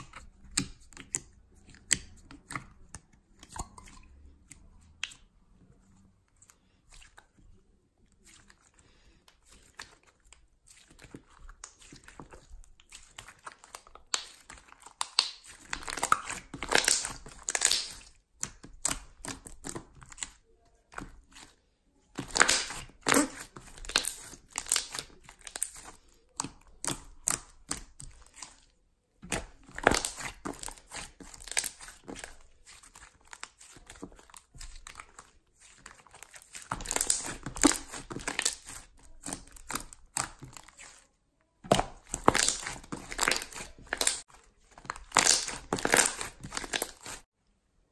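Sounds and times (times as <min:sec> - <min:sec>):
slime squishing and crackling: 0:06.3 - 0:47.3.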